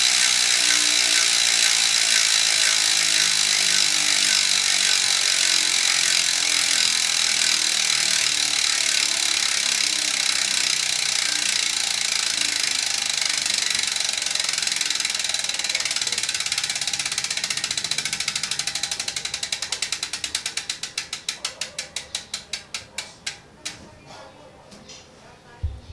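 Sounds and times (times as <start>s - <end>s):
bicycle freehub clicking: 0.0s - 23.8s.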